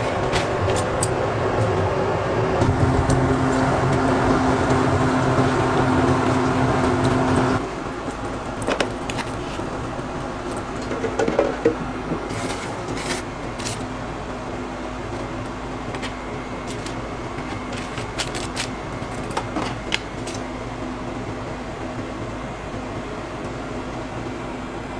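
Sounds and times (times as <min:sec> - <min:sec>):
kitchen room noise: 0:00.0 - 0:24.6
oven blower fans humming: 0:00.0 - 0:24.9.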